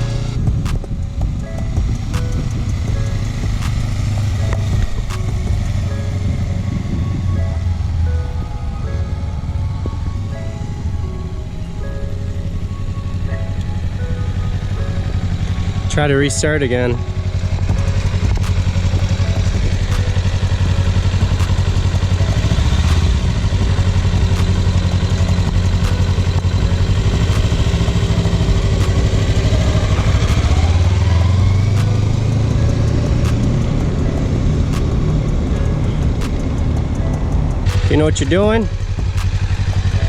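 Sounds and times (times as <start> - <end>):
motorcycle engine running: 0.0 - 11.5, 12.3 - 40.0.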